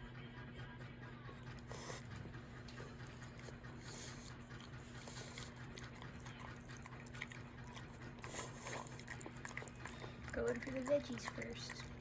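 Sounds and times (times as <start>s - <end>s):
dog chewing: 0.0s - 12.0s.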